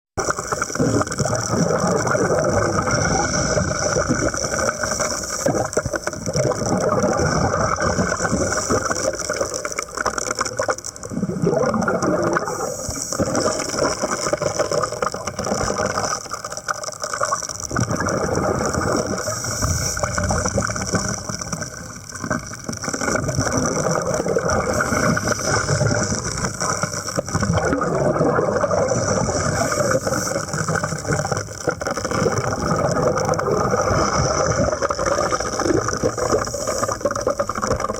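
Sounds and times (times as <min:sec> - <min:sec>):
rattling churning underwater noise: 0:00.2 - 0:37.9.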